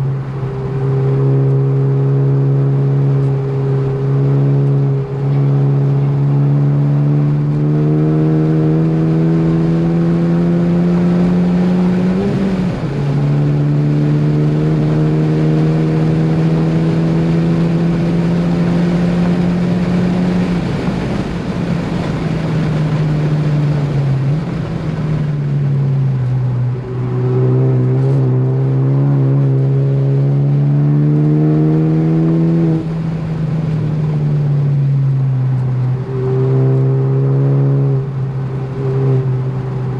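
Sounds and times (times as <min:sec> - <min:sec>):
car engine revving hard: 0:00.0 - 0:35.0, 0:35.6 - 0:39.9.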